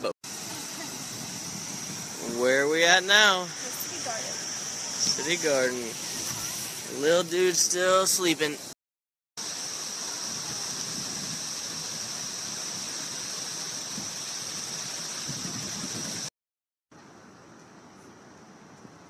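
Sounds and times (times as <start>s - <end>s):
rushing hiss: 0.2s - 8.7s, 9.4s - 16.3s.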